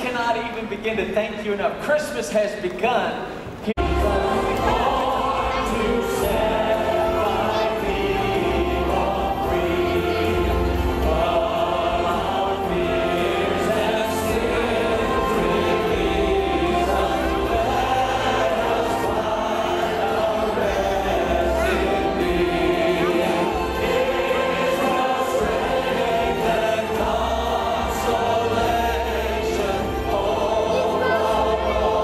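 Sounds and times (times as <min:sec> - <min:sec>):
choir singing: 0:03.8 - 0:32.0
instrumental accompaniment: 0:03.8 - 0:32.0.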